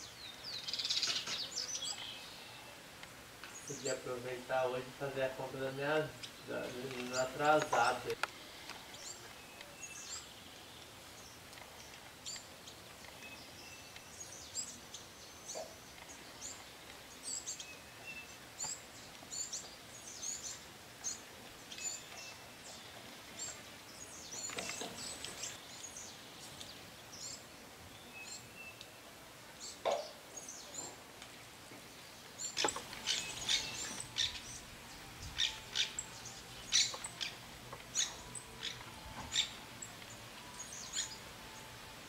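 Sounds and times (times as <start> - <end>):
small birds chirping: 0.0 - 29.0, 29.6 - 31.1, 31.8 - 42.0
faint outdoor hiss: 0.0 - 42.0.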